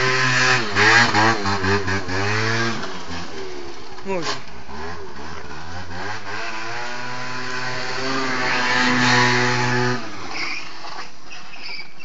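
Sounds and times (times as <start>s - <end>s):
motorbike engine accelerating: 0.0s - 11.9s.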